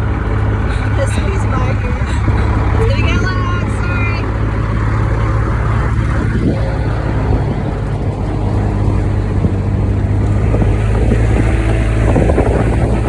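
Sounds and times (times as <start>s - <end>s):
utility vehicle engine running: 0.0s - 13.0s
wind noise on microphone: 0.0s - 13.0s.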